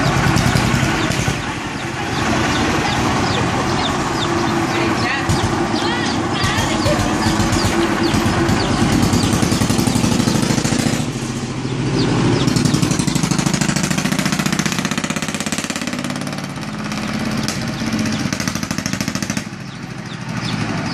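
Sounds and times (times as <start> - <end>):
tuk tuk engine putt-putt: 0.0 - 20.9.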